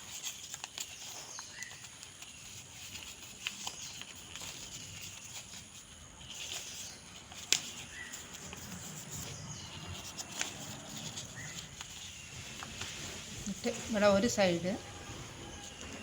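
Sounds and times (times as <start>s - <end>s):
paper rustling and creasing: 0.0s - 16.0s.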